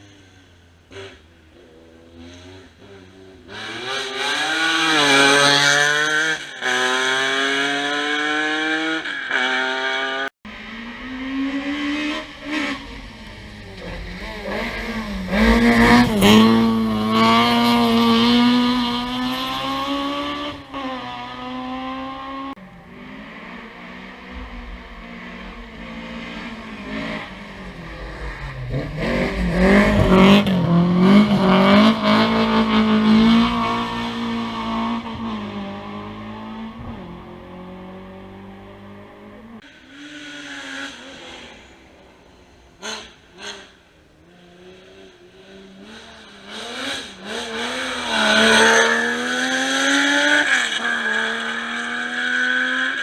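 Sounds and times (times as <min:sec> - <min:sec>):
rally cars accelerating past: 0:00.9 - 0:53.0.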